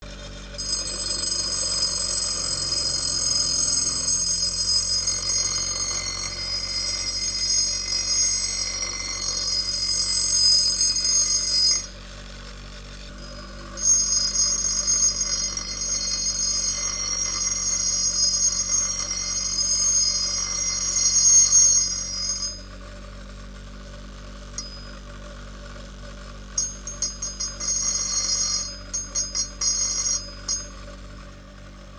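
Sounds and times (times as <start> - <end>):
angle grinder screeching: 0.5 - 12.2, 13.0 - 22.7, 26.6 - 30.9.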